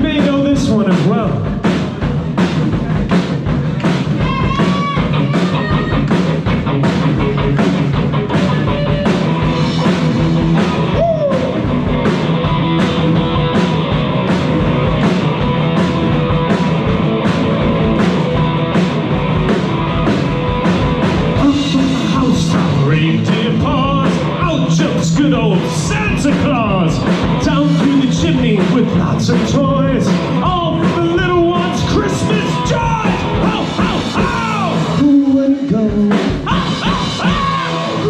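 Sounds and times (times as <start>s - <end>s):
drum kit beat: 0.0s - 38.0s
rock band playing: 0.0s - 38.0s
bent electric guitar notes: 2.8s - 38.0s.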